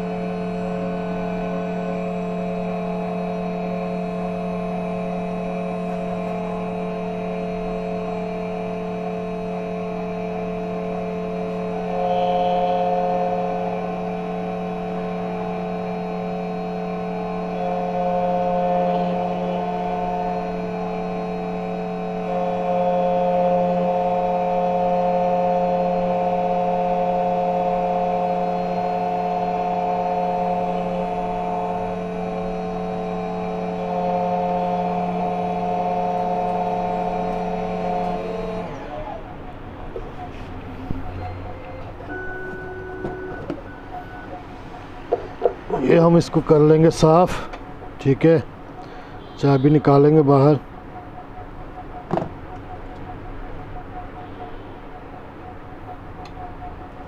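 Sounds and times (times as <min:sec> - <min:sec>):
key cutting machine whine: 0:00.0 - 0:57.0.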